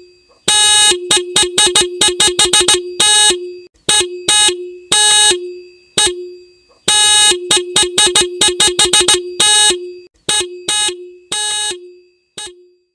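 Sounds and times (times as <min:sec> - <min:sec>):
motorcycle horn beeping: 0:00.5 - 0:12.8.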